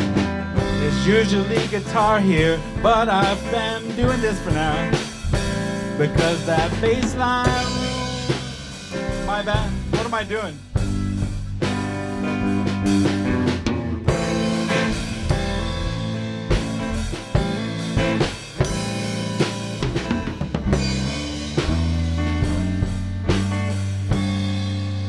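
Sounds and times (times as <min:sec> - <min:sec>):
drum kit: 0:00.0 - 0:25.0
electric bass line: 0:00.0 - 0:25.0.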